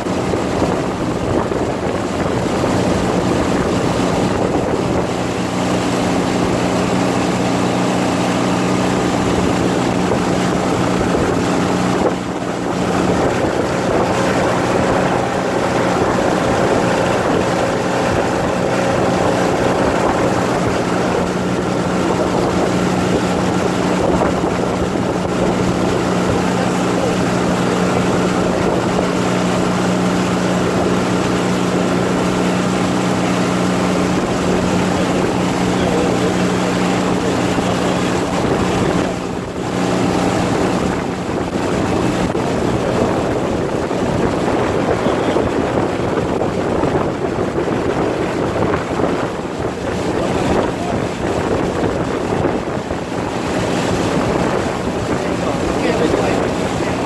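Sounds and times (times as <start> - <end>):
boat engine droning: 0.0 - 57.0
water rushing past hull: 0.0 - 57.0
wind on microphone: 0.0 - 57.0.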